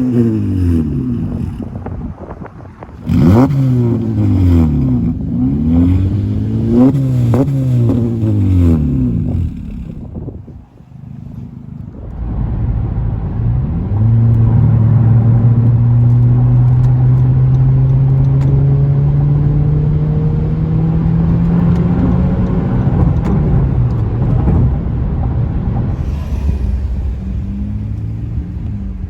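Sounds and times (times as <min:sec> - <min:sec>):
loud car exhaust revving: 0:00.0 - 0:29.0.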